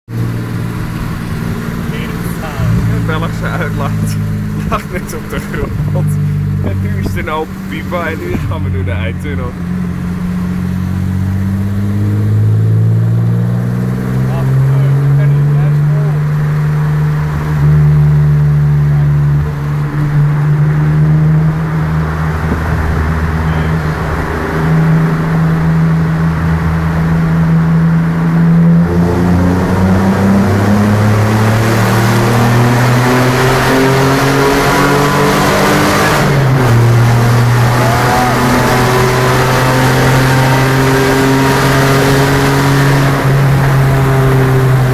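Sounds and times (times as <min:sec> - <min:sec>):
car engine through open exhaust: 0:00.0 - 0:44.9.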